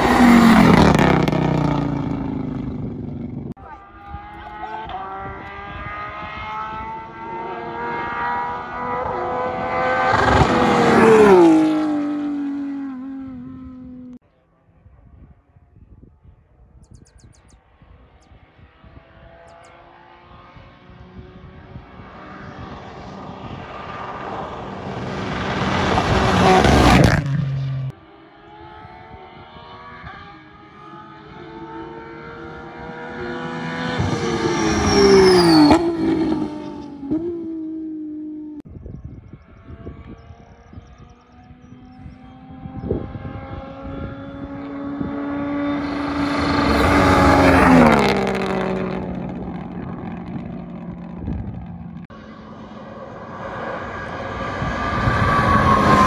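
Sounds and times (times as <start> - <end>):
rally cars passing at speed: 0.0 - 15.1, 17.6 - 38.7, 39.3 - 56.0.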